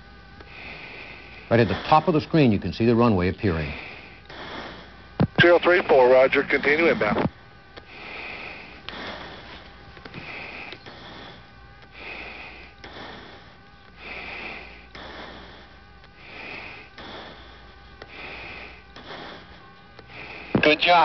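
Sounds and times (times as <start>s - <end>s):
steady low hum: 0.0s - 21.0s
breathing into mask microphone: 0.4s - 2.1s, 3.6s - 20.8s.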